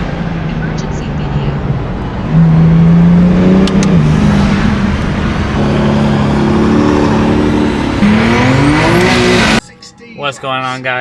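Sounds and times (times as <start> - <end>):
car engine under throttle: 0.0 - 9.6
road noise: 0.0 - 11.0.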